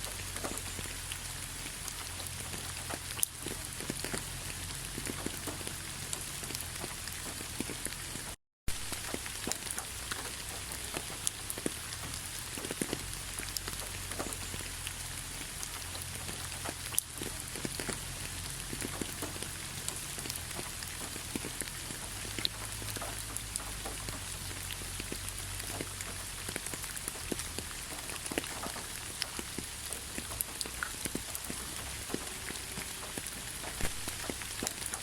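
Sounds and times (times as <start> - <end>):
raindrops tapping: 0.0 - 35.0
steady rainfall: 0.0 - 35.0.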